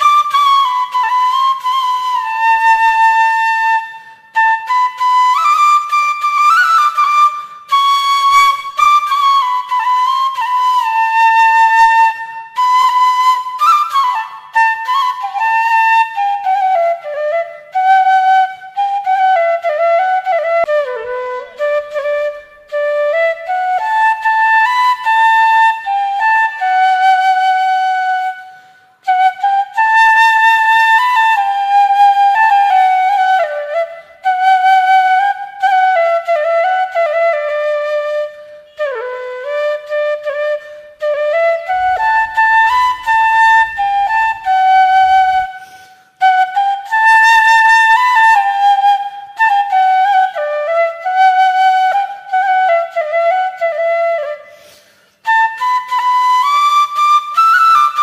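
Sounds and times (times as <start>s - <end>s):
solo flute melody: 0.0s - 58.0s.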